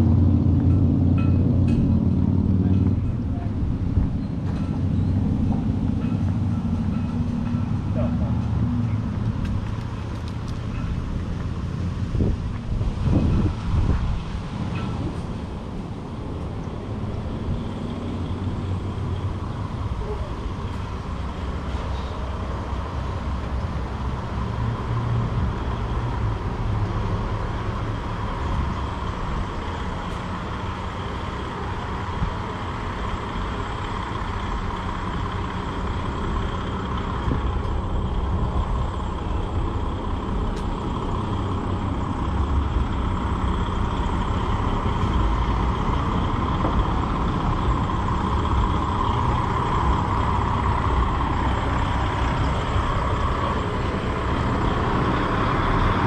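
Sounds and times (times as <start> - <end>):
street traffic rumbling: 0.0 - 56.0
truck diesel engine: 0.0 - 56.0.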